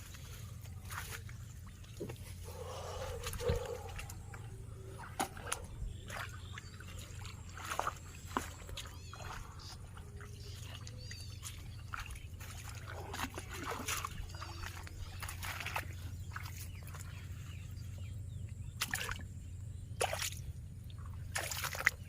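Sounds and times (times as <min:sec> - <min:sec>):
water trickling and splashing: 0:00.0 - 0:18.1, 0:18.7 - 0:22.0.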